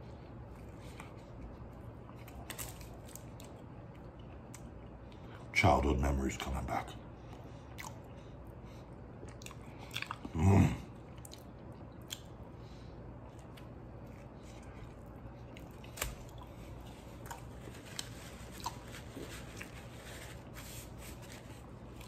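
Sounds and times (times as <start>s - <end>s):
person chewing burrito: 0.0s - 5.5s, 7.3s - 22.0s.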